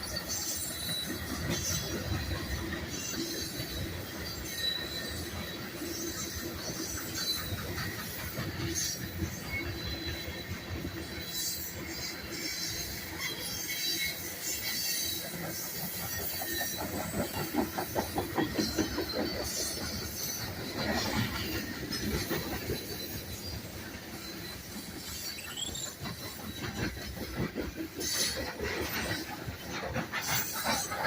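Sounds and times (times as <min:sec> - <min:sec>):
high wheel squeal: 0:00.0 - 0:31.0
train wheels clicking over rail joints: 0:00.0 - 0:31.0.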